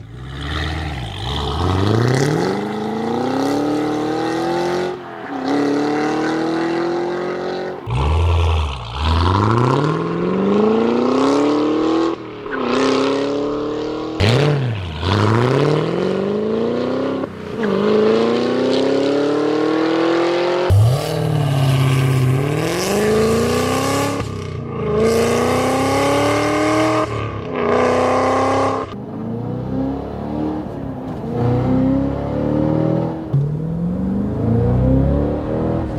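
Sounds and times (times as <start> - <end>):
car engine accelerating hard: 0.0 - 35.9.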